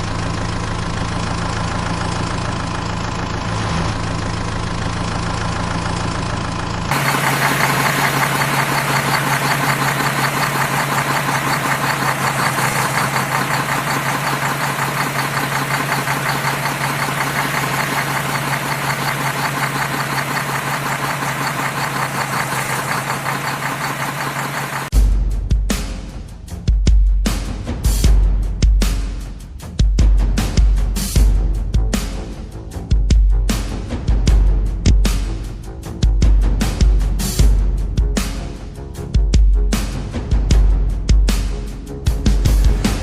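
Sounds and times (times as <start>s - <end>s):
vehicle engine chugging: 0.0s - 26.3s, 26.9s - 43.0s.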